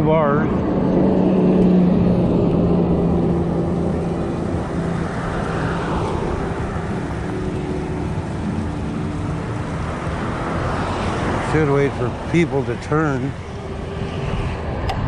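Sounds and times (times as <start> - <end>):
road traffic noise: 0.0 - 15.0
vehicle passing: 0.0 - 15.0
wind buffeting microphone: 0.0 - 15.0.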